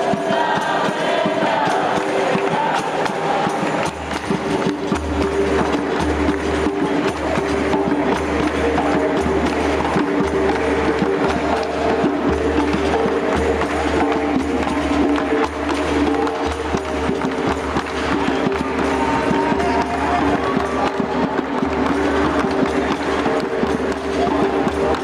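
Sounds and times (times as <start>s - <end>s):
hand percussion and drum rhythm: 0.0s - 25.0s.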